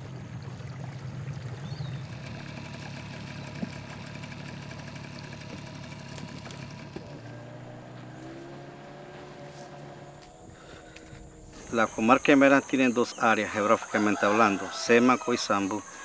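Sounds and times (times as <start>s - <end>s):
small boat motor humming: 0.0s - 16.0s.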